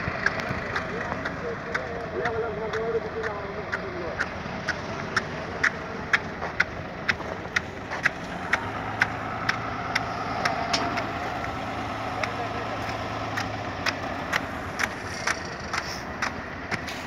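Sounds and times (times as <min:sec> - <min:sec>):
sharp regular ticking: 0:00.0 - 0:16.9
engine and vehicle noise: 0:00.0 - 0:17.0.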